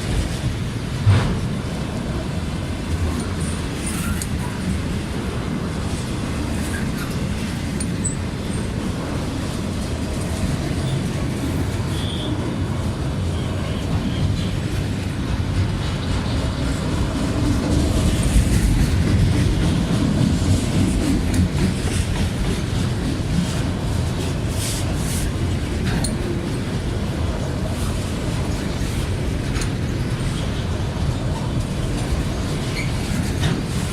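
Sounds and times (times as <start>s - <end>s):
freight train wheels rumbling: 0.0s - 33.9s.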